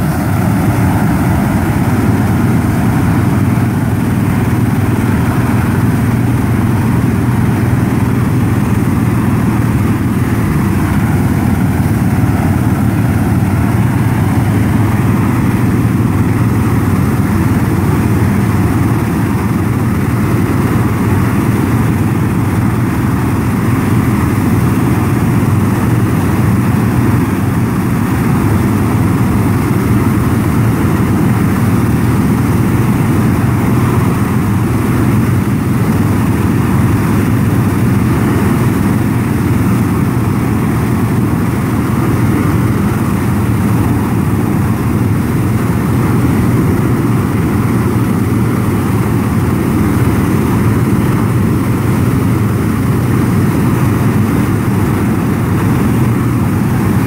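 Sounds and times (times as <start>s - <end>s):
rush of burning gas burners: 0.0s - 57.0s
tractor engine running: 0.0s - 57.0s.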